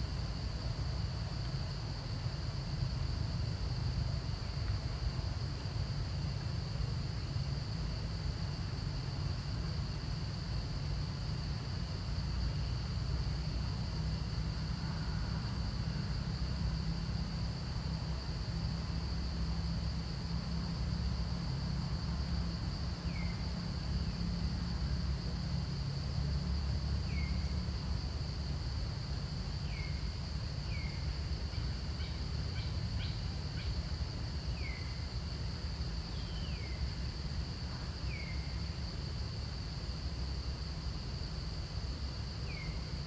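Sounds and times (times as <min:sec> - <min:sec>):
insect drone: 0:00.0 - 0:43.0.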